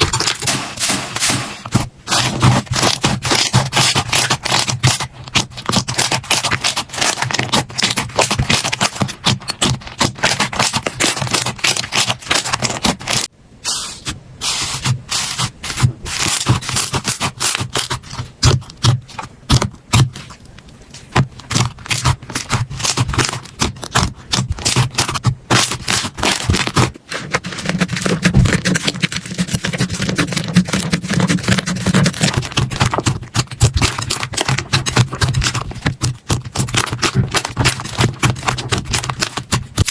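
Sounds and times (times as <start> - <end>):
slime crackling and squelching: 0.0 - 13.3, 14.6 - 39.9.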